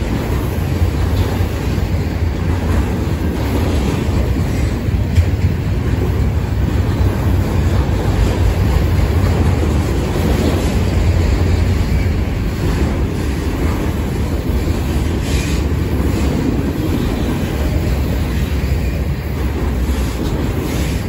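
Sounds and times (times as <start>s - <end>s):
steel wheels rumbling on rail: 0.0s - 21.0s.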